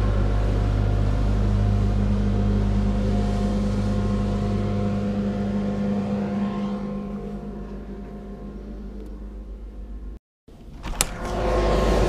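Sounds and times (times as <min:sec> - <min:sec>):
machine engine droning: 0:00.0 - 0:12.0.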